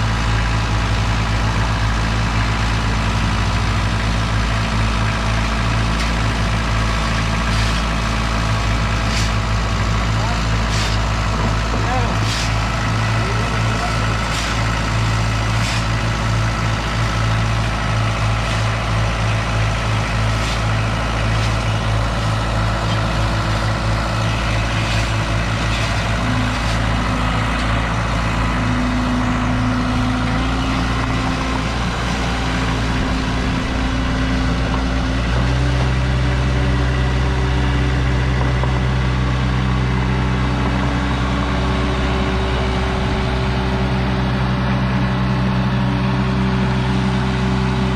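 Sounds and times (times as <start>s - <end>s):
excavator engine running: 0.0s - 47.9s.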